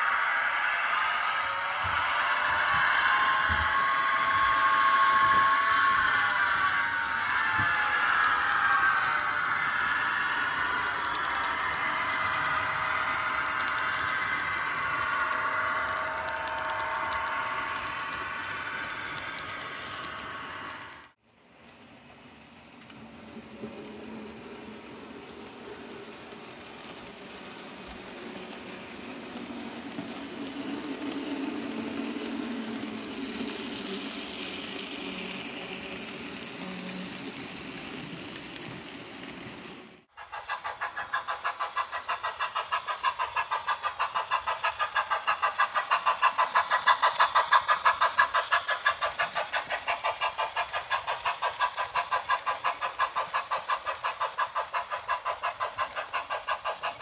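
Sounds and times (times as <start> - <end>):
model locomotive chugging: 0.0 - 57.0
model train rolling and motor noise: 0.0 - 57.0.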